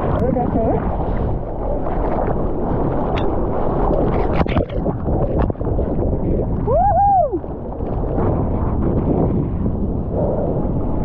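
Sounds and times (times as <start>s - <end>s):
sea water sloshing and splashing: 0.0s - 6.7s, 7.4s - 11.0s.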